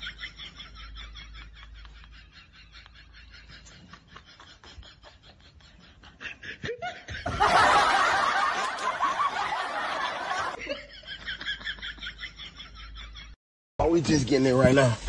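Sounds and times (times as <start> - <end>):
person snickering and laughing: 0.0 - 13.4.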